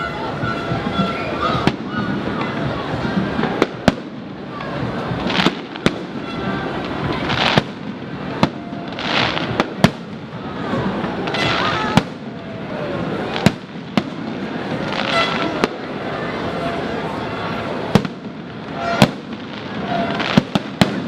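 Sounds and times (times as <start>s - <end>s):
hissing crackle of fireworks: 0.0s - 21.0s.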